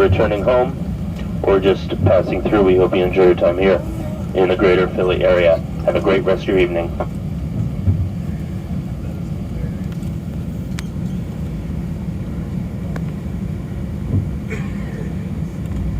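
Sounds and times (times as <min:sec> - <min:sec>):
aircraft engines idling: 0:00.0 - 0:15.9
cabin air running: 0:00.0 - 0:15.9.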